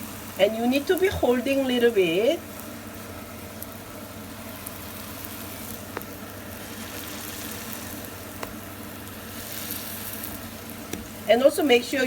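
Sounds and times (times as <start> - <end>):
faint sizzle of frying: 0.0 - 12.0.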